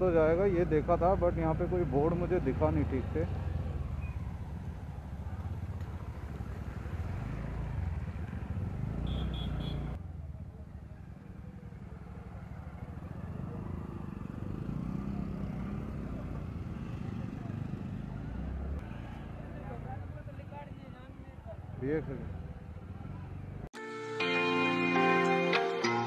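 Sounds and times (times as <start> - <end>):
scooter engine rumbling: 0.0 - 23.6.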